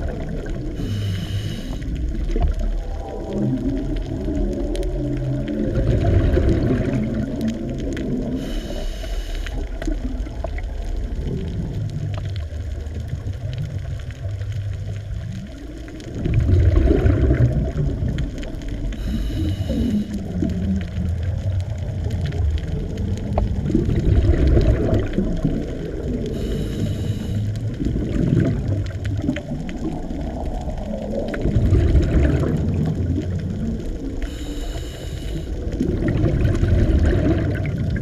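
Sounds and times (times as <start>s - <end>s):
underwater rumble of moving water: 0.0s - 38.0s.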